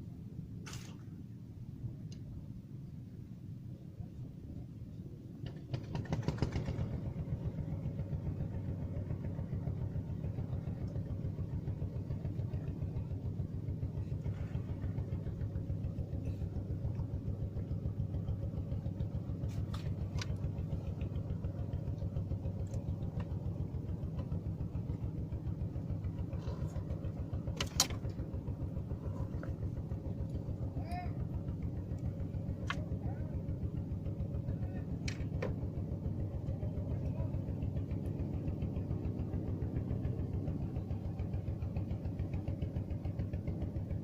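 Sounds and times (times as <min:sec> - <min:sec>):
small boat engine running: 0:00.0 - 0:44.0.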